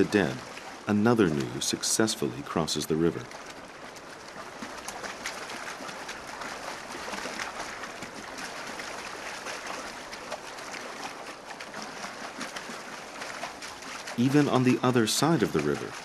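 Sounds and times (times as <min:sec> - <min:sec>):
animals splashing through water: 0:00.0 - 0:16.0
rushing river water: 0:00.0 - 0:16.0.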